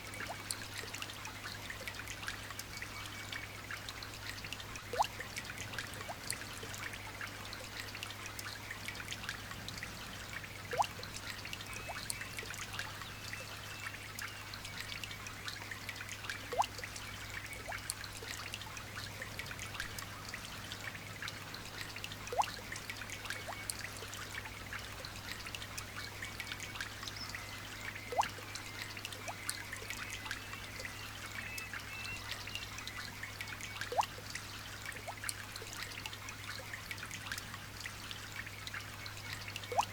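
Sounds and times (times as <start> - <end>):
light rain pattering: 0.0 - 39.9
trickle of water: 0.0 - 39.9
water drip plinking: 0.1 - 9.4, 10.3 - 20.4, 21.2 - 39.9.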